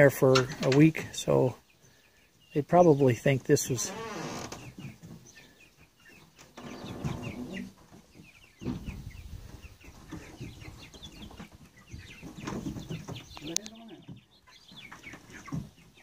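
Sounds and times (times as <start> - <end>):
young chickens peeping: 0.0 - 16.0.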